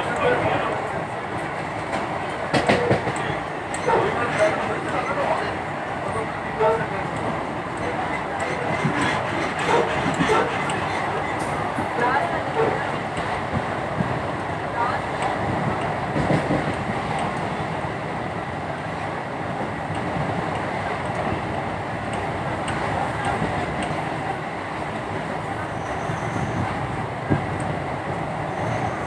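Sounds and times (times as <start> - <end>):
train running on track: 0.0 - 29.0.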